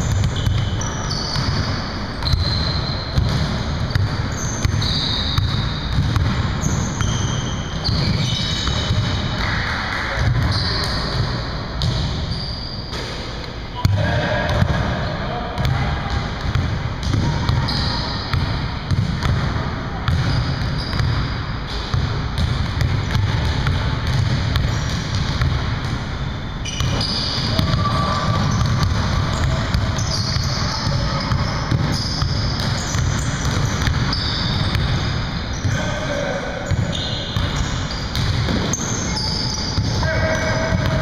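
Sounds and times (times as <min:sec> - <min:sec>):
basketballs bouncing on wood floor: 0:00.0 - 0:13.1, 0:15.6 - 0:41.0.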